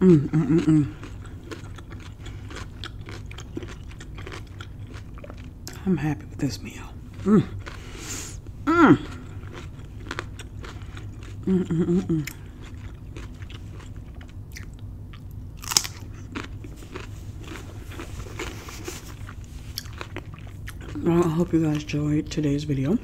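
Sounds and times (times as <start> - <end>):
cucumber crunch: 0.0 - 6.3, 7.0 - 22.0
chewing and lip-smacking: 0.2 - 5.8, 6.9 - 22.0.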